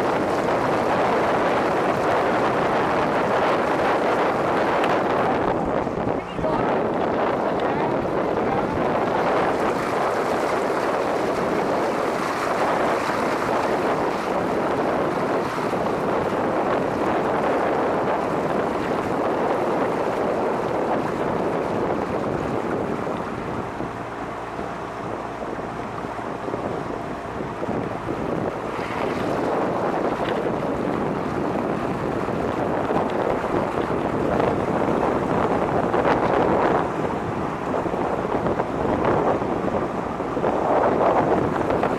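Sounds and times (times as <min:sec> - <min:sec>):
outboard motor running: 0:00.0 - 0:41.9
wind buffeting microphone: 0:00.0 - 0:41.9.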